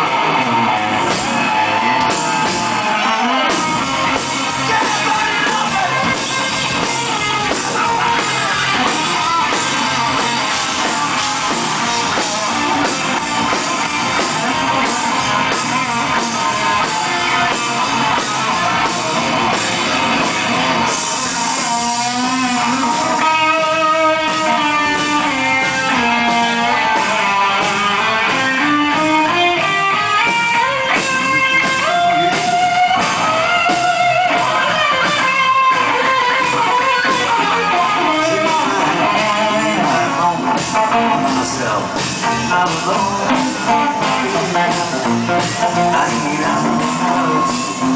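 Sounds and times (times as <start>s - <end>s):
lead guitar with bent notes: 0.0s - 47.9s
live rock band playing: 0.0s - 47.9s.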